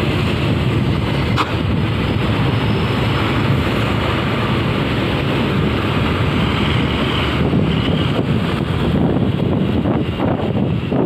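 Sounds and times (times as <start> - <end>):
engine and tyre road noise: 0.0 - 11.0
wind buffeting microphone: 0.0 - 11.0.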